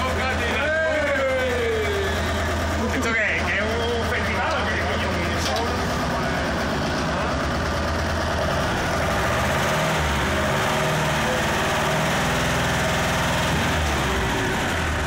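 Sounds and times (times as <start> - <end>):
dumper engine running: 0.0 - 15.0.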